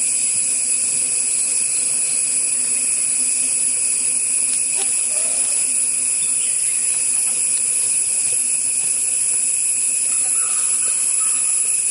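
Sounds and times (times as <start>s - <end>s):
insect chorus drone: 0.0s - 11.9s.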